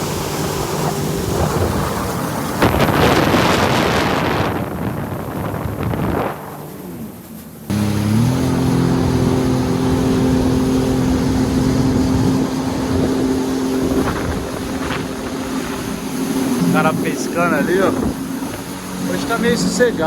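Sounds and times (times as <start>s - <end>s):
motor engine running: 0.0s - 20.0s
wind on microphone: 0.0s - 20.0s.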